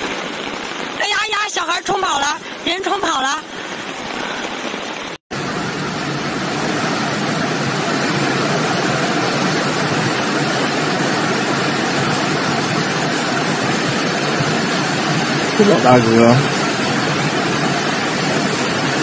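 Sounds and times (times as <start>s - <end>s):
fast-flowing floodwater rushing: 0.0s - 19.0s.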